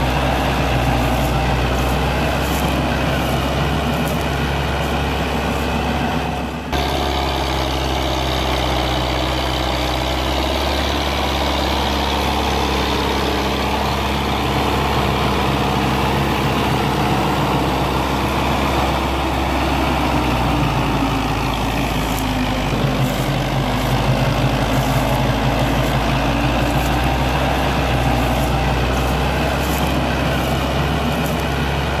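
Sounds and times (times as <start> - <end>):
tractor diesel engine running hard: 0.0 - 32.0.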